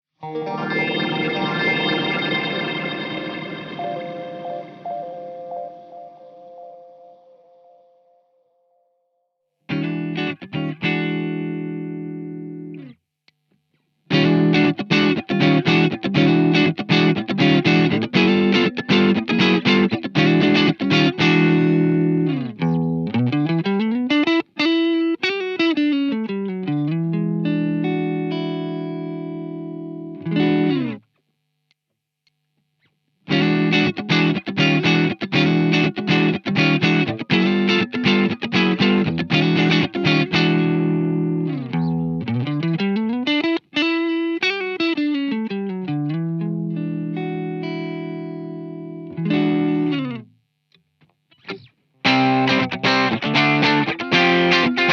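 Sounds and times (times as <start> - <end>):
overdriven electric guitar: 0.2 - 6.3, 9.7 - 13.0, 14.1 - 31.0, 33.3 - 50.3, 51.3 - 54.9.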